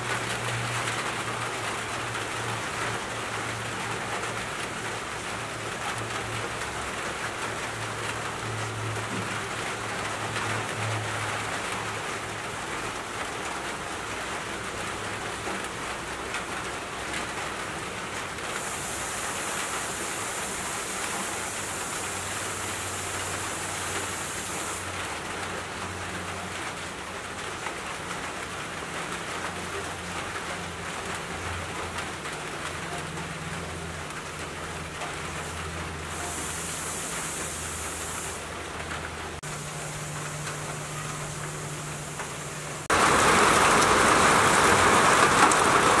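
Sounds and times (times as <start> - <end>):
rain falling on leaves: 0.0 - 46.0.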